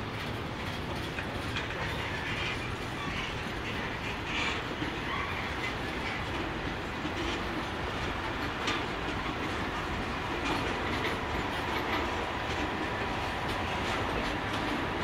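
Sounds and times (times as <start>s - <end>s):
freight train wheels rumbling: 0.0s - 15.0s
wheels clacking over track: 0.0s - 15.0s.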